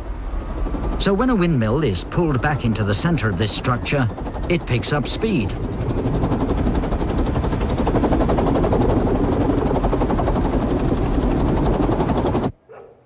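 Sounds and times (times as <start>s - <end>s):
wind turbine rotor whirring: 0.0s - 12.6s.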